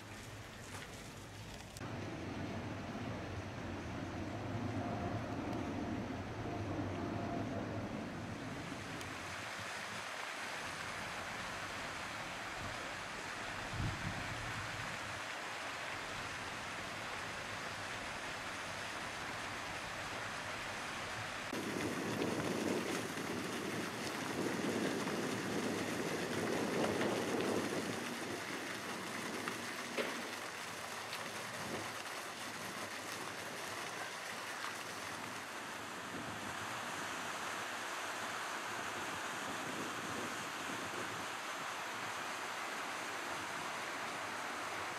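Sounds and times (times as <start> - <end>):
fountain water splashing: 0.0 - 44.9.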